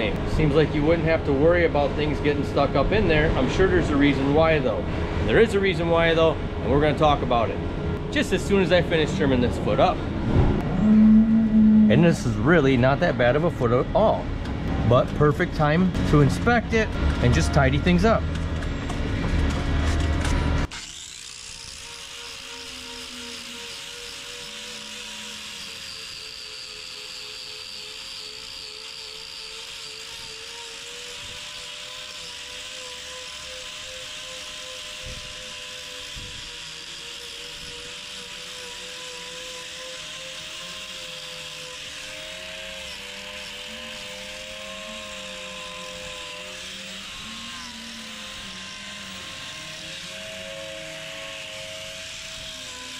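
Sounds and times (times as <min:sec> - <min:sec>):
angle grinder whining: 0:00.0 - 0:52.9.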